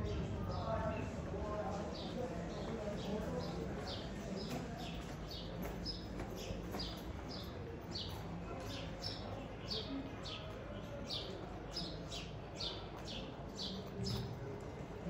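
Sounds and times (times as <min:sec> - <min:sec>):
birds chirping: 0:00.0 - 0:14.3
street noise: 0:00.0 - 0:15.0.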